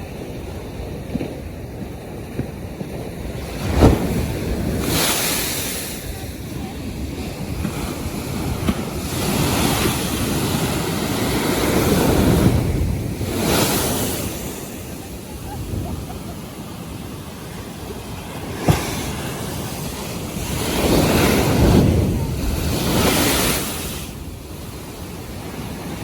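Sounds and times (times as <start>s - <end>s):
waves breaking on shore: 0.0s - 26.0s
wind on microphone: 0.0s - 26.0s.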